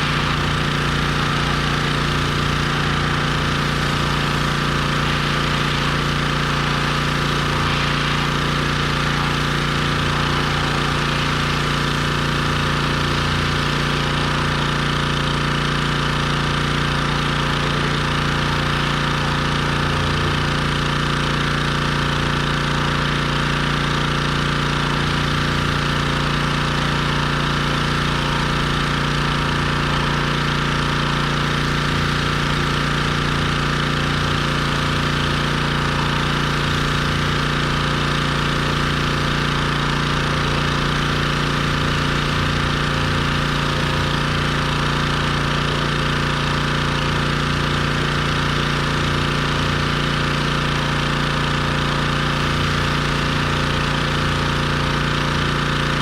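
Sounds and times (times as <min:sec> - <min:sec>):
pressure washer running: 0:00.0 - 0:56.0.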